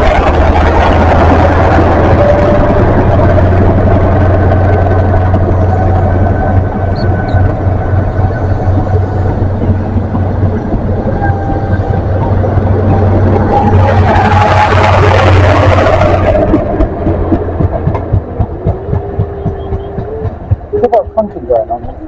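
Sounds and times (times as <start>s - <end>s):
train diesel engine droning: 0.0s - 22.0s.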